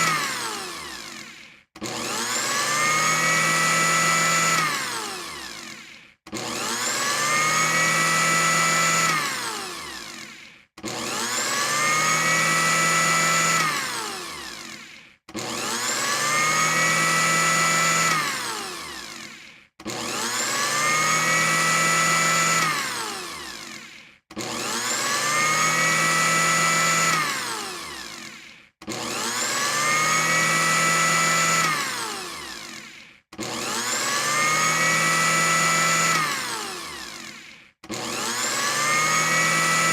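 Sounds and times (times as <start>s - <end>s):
blender motor whining: 0.0s - 39.9s.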